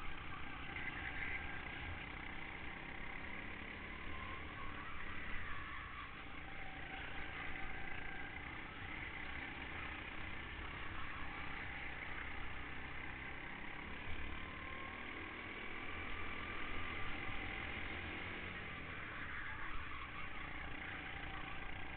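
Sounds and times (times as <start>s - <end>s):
go-kart engine running: 0.0s - 21.9s.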